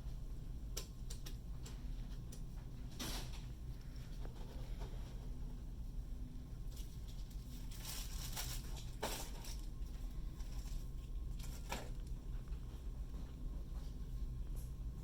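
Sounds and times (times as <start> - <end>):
low store hum: 0.0 - 15.0.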